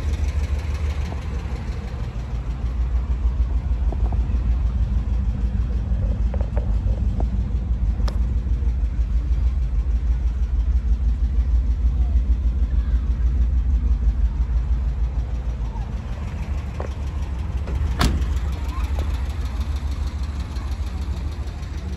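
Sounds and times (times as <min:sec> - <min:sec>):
van engine idling: 0:00.0 - 0:21.9.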